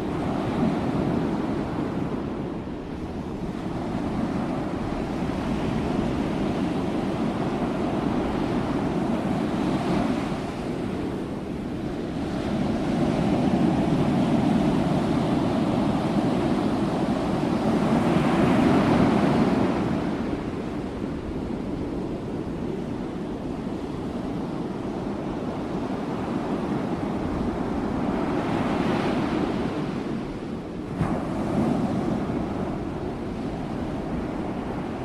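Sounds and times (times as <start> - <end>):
sea waves breaking on shore: 0.0 - 35.0.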